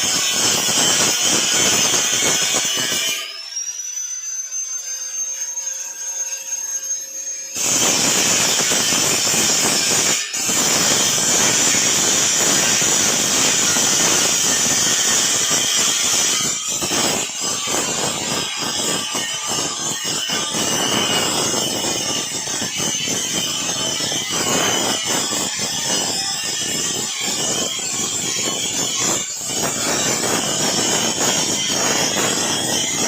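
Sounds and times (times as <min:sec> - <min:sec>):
harsh grinding hiss: 0:00.0 - 0:03.4, 0:07.5 - 0:33.0
power tool whining: 0:00.0 - 0:33.0.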